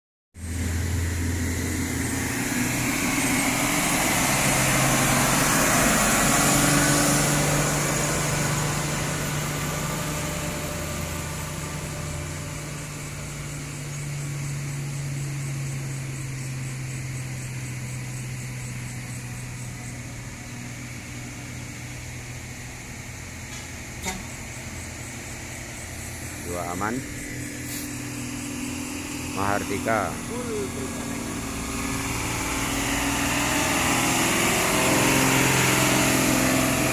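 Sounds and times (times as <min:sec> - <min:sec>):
truck diesel engine labouring uphill: 0:00.4 - 0:36.9.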